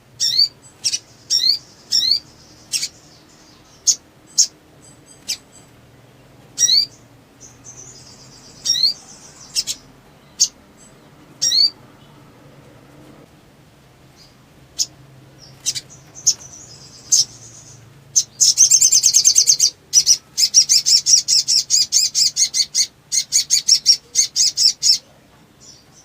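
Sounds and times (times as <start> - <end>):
faint low hum: 0.0 - 26.0
bird chirping: 0.1 - 13.0, 14.0 - 26.0.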